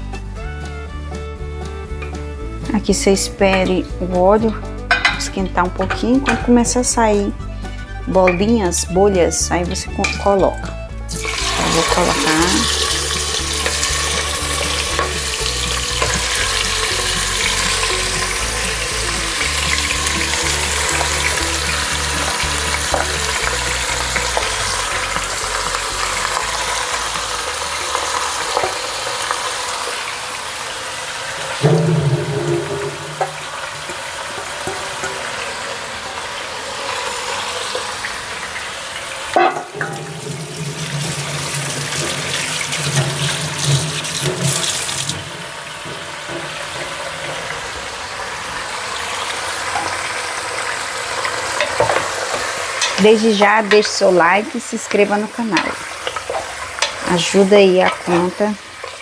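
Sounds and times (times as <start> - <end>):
ribs sizzling in hot oil: 1.1 - 59.0.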